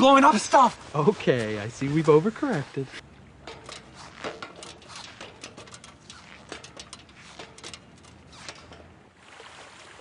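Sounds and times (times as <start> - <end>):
faint steady background noise: 0.0 - 10.0.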